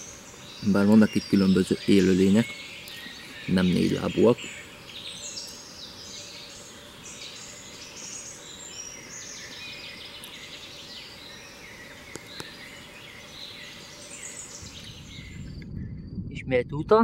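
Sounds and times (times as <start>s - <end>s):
birds singing in chorus: 0.0s - 16.4s.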